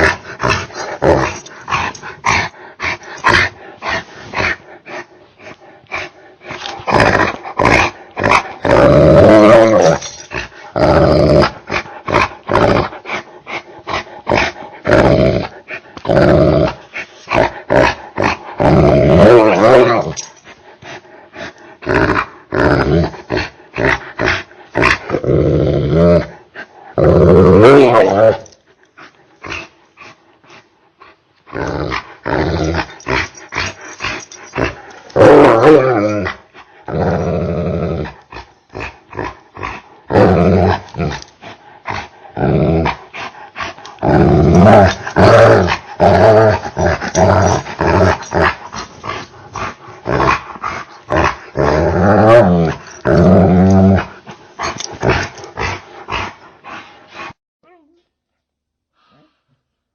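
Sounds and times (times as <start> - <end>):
slowed dog growling and barking: 0.0 - 57.4.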